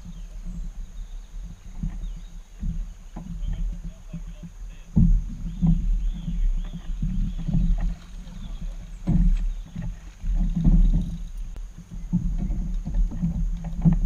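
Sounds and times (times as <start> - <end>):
low thumps from boat: 0.0 - 14.0
paddle splashing in water: 0.0 - 14.0.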